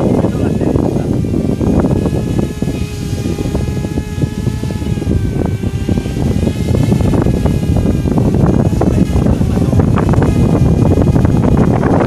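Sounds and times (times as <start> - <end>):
drone motors humming: 0.0 - 12.0
wind buffeting microphone: 0.0 - 12.0.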